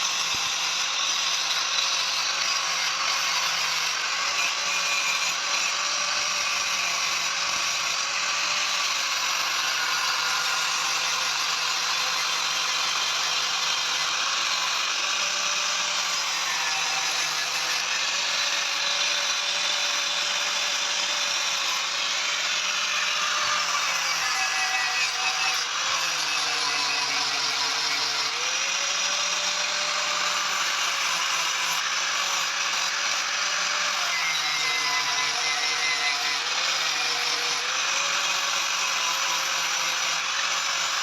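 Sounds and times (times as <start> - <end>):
electric power tool motor: 0.0 - 41.0.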